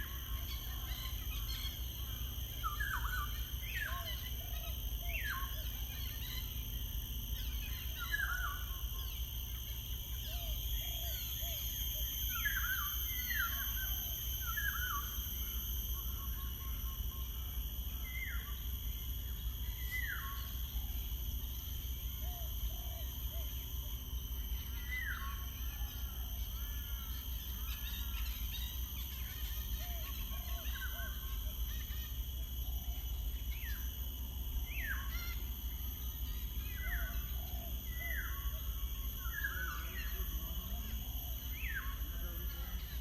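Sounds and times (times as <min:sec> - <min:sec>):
high-pitched hum: 0:00.0 - 0:43.0
songbirds calling: 0:00.0 - 0:43.0.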